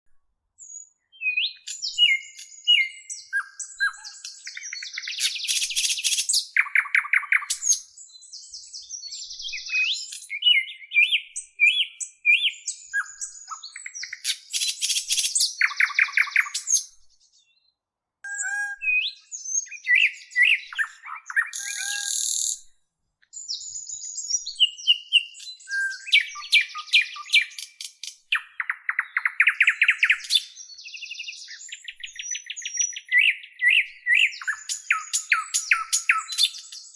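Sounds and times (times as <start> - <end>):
birdsong chirps and trills: 0.6 - 22.7, 23.3 - 36.9.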